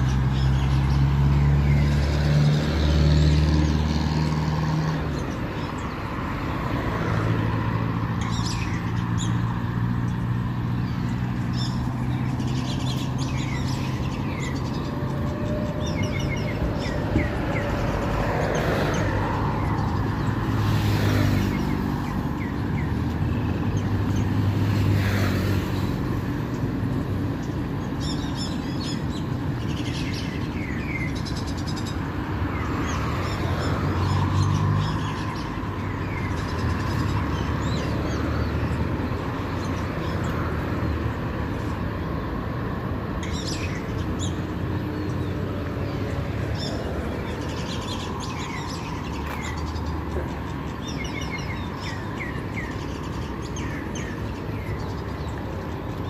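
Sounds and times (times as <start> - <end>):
road traffic noise: 0.0 - 56.0
small birds chirping: 0.0 - 56.0
vehicles passing by: 0.0 - 56.0.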